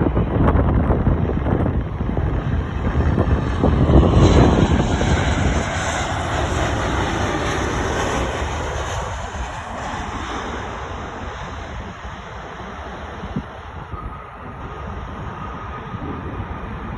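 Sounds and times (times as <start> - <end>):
airliner engines passing: 0.0 - 16.9
wind buffeting microphone: 0.0 - 16.9.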